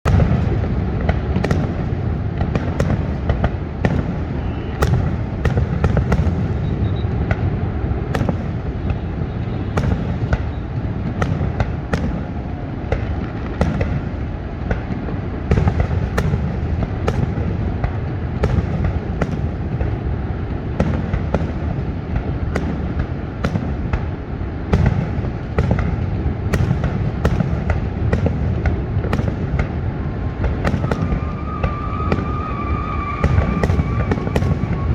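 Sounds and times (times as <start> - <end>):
fireworks bangs and booms: 0.0 - 34.9.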